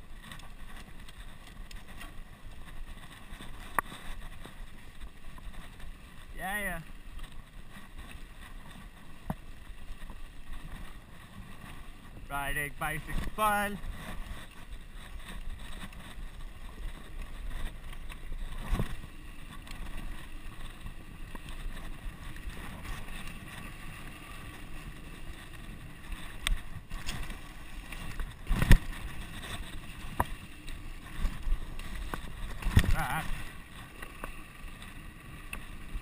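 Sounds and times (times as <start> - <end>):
wind and tyre noise: 0.0 - 36.0.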